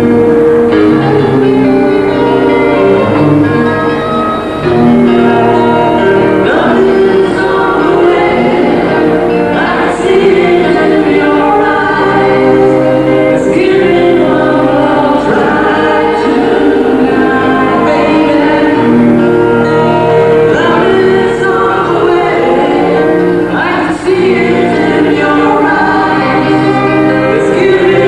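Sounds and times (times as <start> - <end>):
acoustic guitar: 0.0 - 28.0
people singing together: 0.0 - 28.0.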